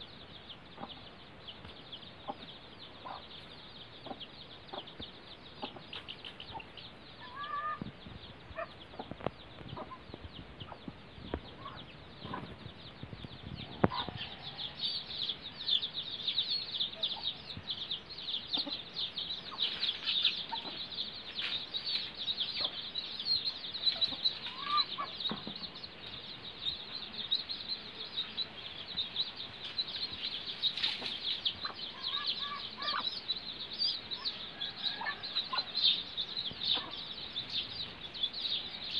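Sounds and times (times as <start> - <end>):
chicks peeping: 0.0 - 38.9
hen clucking: 2.2 - 15.9, 16.8 - 38.2.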